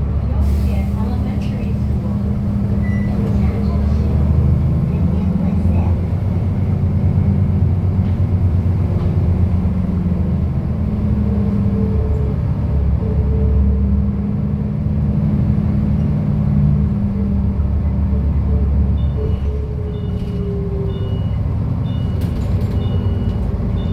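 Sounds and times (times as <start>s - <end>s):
bus diesel engine running: 0.0s - 23.9s.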